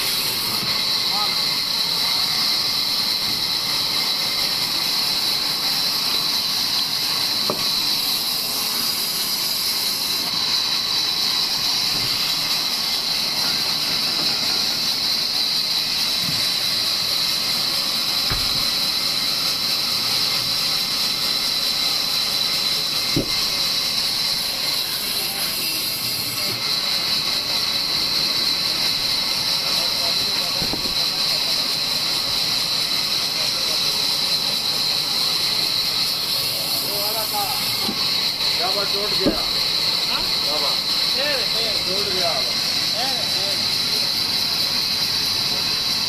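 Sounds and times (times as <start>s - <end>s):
band saw blade hissing through wood: 0.0s - 46.0s
band saw motor: 0.0s - 46.0s.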